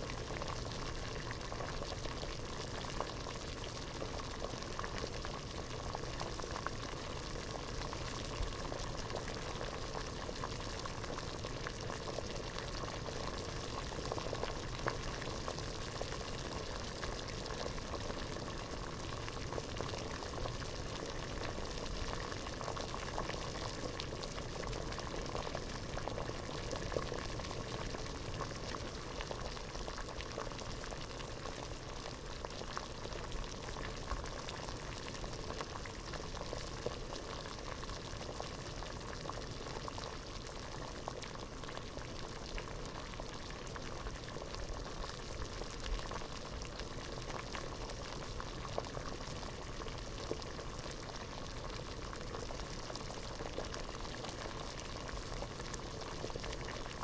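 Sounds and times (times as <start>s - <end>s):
water boiling in a pot: 0.0s - 57.0s.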